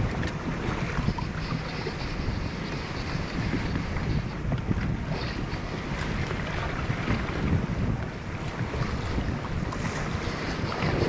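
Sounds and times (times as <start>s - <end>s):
water lapping around boat: 0.0s - 11.0s
wind buffeting microphone: 0.0s - 11.0s.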